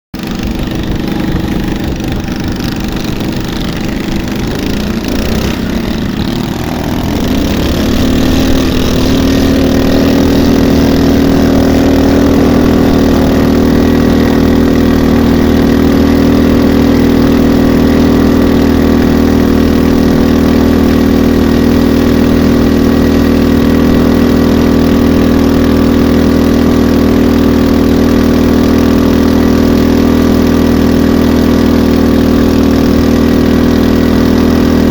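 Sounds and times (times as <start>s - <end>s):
boat engine running: 0.2s - 34.9s.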